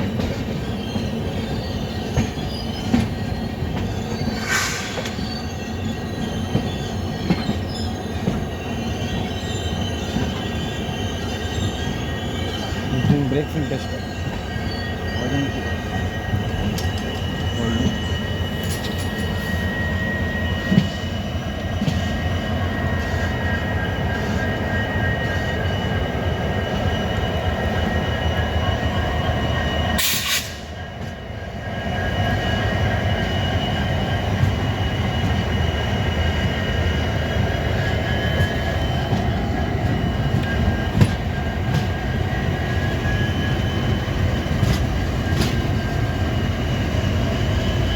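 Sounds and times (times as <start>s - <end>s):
train rumbling on rails: 0.0s - 47.9s
high-pitched wheel squeal: 0.5s - 47.9s.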